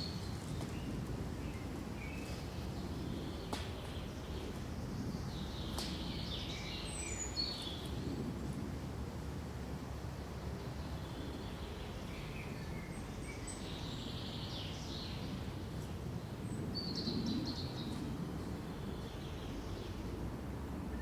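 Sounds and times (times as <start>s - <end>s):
wind rustling through trees: 0.0s - 21.0s.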